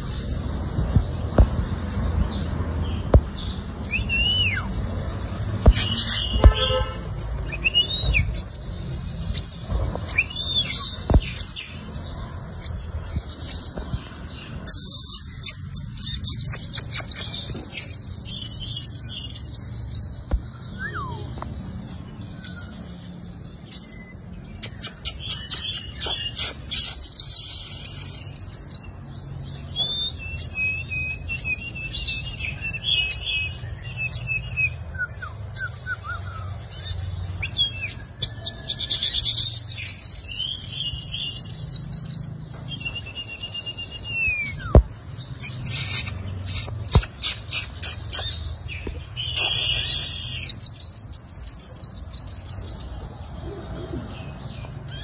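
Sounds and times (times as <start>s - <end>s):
sunbird singing: 0.0s - 55.0s.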